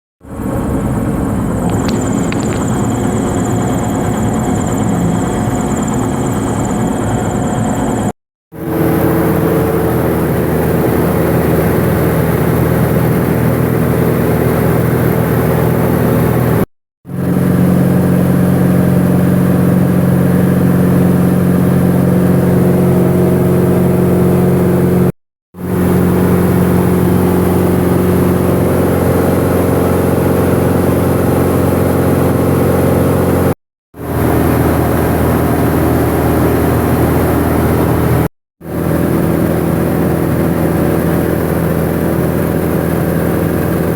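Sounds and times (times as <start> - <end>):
light airplane engine and propeller: 0.2 - 43.9.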